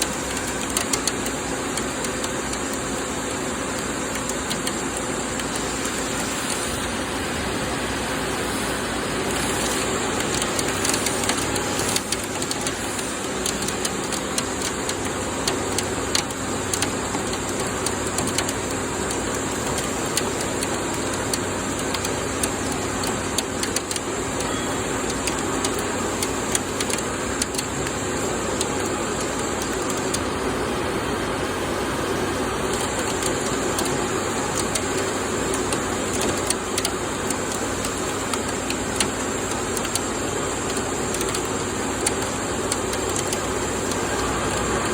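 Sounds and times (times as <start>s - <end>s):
sharp metal ticks: 0.0s - 3.1s, 3.7s - 6.6s, 10.2s - 30.2s, 32.7s - 44.0s
coolant noise: 0.0s - 44.9s
lathe machine hum: 2.8s - 15.5s, 18.8s - 44.9s.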